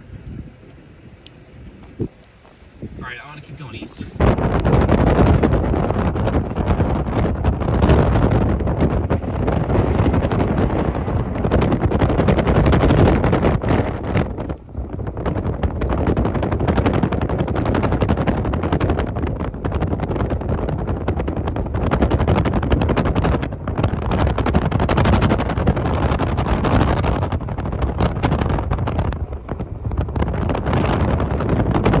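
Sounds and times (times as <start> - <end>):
road noise: 0.0 - 32.0
wind buffeting microphone: 0.0 - 32.0.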